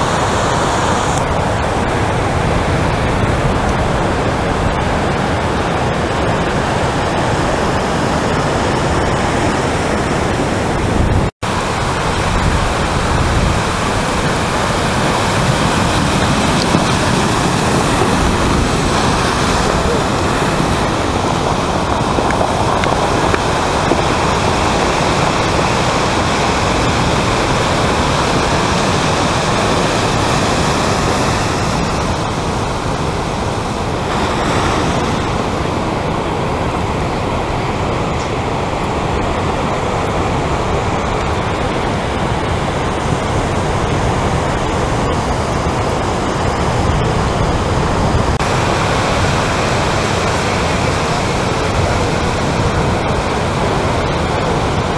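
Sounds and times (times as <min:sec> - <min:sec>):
ocean surf breaking: 0:00.0 - 0:54.9.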